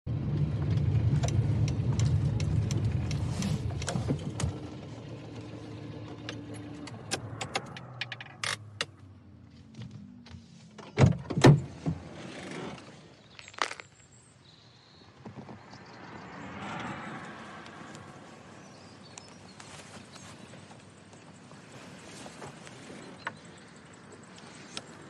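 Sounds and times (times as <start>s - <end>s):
vehicle engine rumbling: 0.1s - 25.0s.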